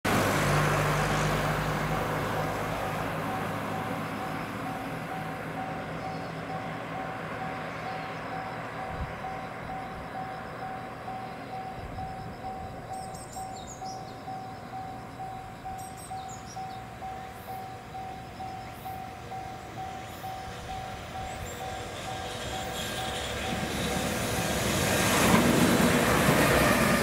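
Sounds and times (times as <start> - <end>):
train running noise: 0.1 - 27.0.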